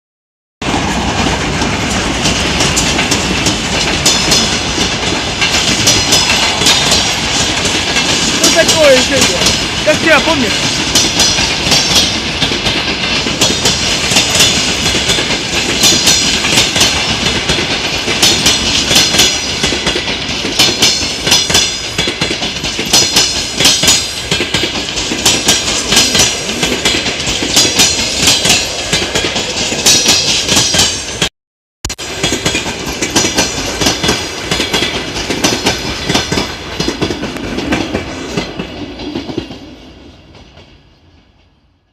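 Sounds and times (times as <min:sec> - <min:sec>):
rumble of moving train: 0:00.6 - 0:31.3, 0:32.0 - 0:41.9
train wheels clattering over rail joints: 0:00.6 - 0:31.3, 0:32.0 - 0:40.7.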